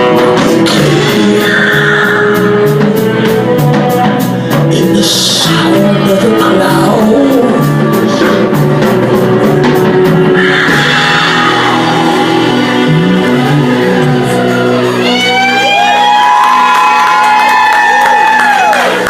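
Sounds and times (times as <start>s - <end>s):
person singing: 0.0s - 15.9s
rock band playing: 0.0s - 19.0s.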